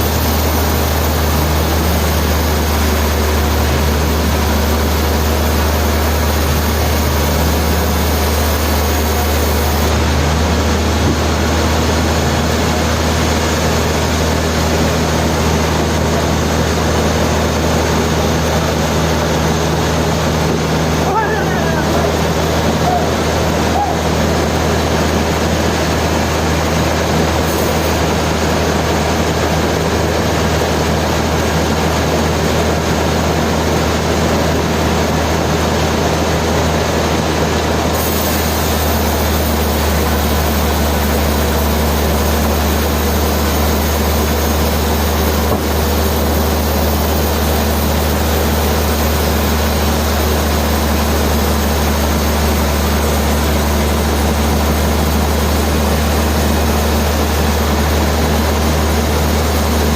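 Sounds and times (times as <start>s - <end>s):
sawmill machinery running: 0.0s - 59.9s
second steady hum: 0.0s - 59.9s.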